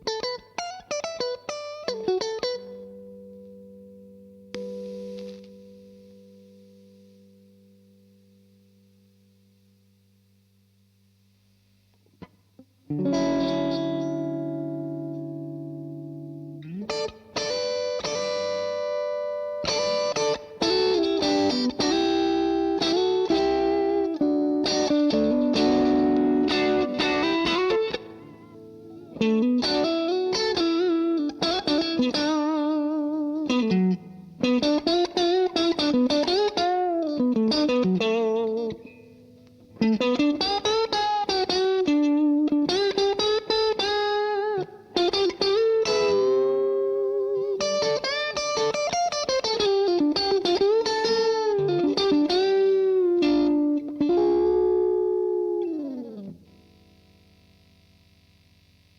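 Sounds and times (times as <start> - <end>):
electric guitar lead with driven tone: 0.0 - 8.2, 12.2 - 58.9.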